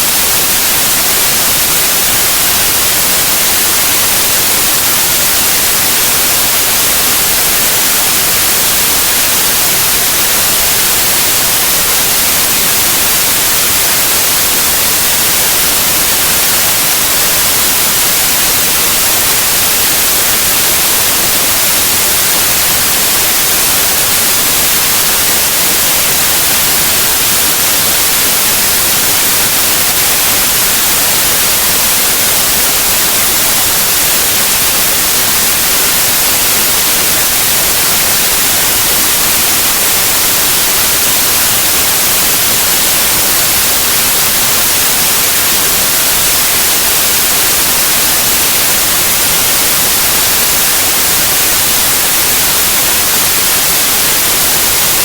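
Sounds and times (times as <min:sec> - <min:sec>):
loud white noise hiss: 0:00.0 - 0:55.0.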